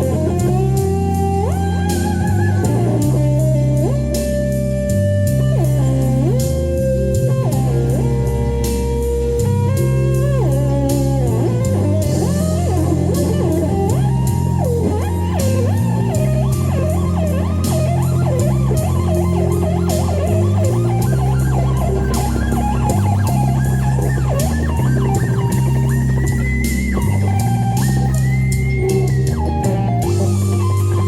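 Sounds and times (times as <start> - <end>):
blues-rock backing track: 0.0 - 31.0
lead guitar solo with string bends: 0.0 - 31.0.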